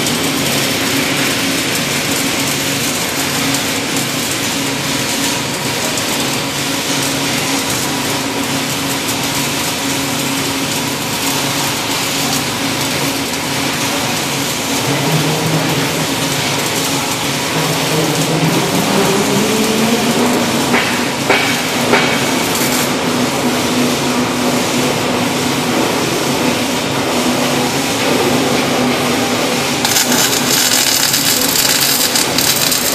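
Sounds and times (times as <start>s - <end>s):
low machine hum: 0.0s - 32.9s
welding arc noise: 0.0s - 32.9s.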